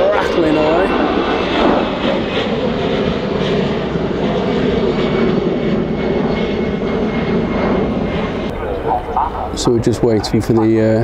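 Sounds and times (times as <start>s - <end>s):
jet airliner engines roaring: 0.0s - 11.0s.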